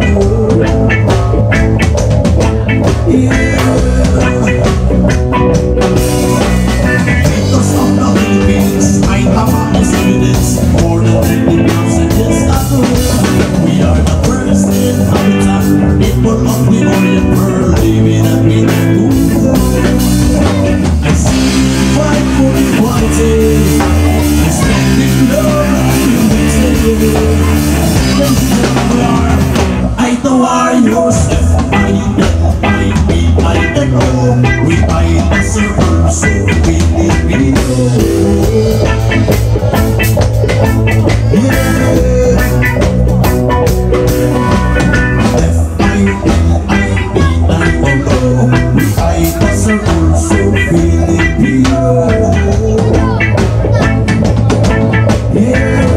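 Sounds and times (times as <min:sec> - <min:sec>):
drum kit: 0:00.0 - 0:55.9
electric guitars: 0:00.0 - 0:55.9
person singing: 0:00.0 - 0:55.9.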